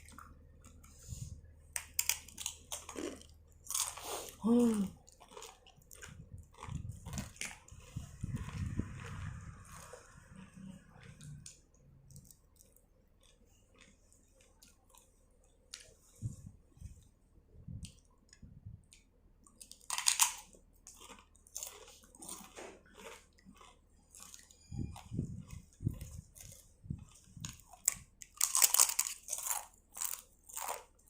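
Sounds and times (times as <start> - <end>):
chewing and crunching food: 0.0 - 31.0.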